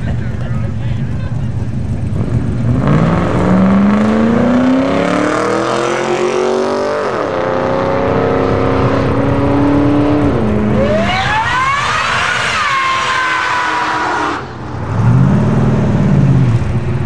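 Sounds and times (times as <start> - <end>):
spinning tyres rushing: 0.0 - 17.0
car engine revving hard: 2.1 - 16.7.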